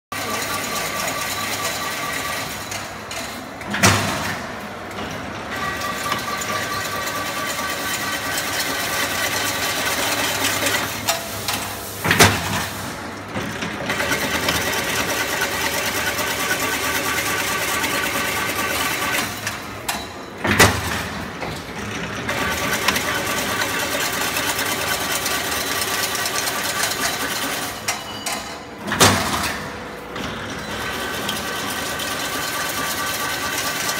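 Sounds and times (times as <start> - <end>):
fence machine clatter and whir: 0.1 - 33.9
loud machine clank: 0.3 - 33.9.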